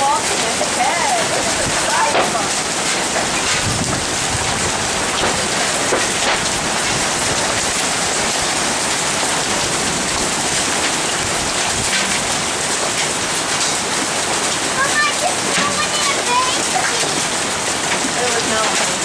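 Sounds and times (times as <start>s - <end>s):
hail pelting down: 0.0s - 19.0s.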